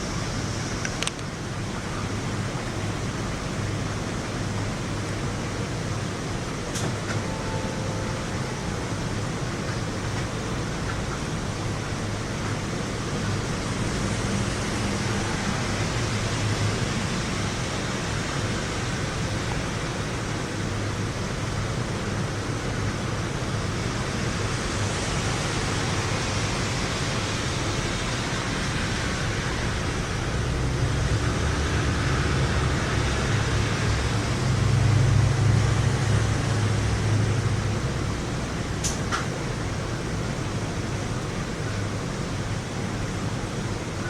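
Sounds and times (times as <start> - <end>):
heavy rain hissing: 0.0 - 44.0.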